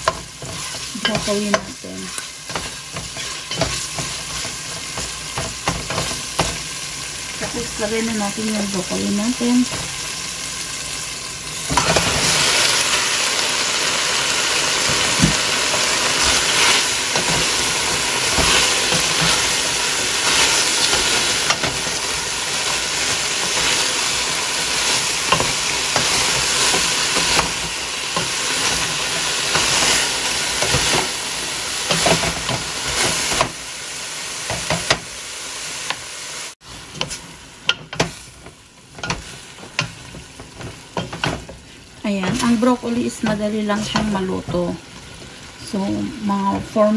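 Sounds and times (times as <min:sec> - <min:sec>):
wooden spoon scraping wok: 0:00.0 - 0:10.1, 0:14.6 - 0:33.6, 0:36.6 - 0:46.9
vegetables sizzling in hot oil: 0:00.0 - 0:46.9.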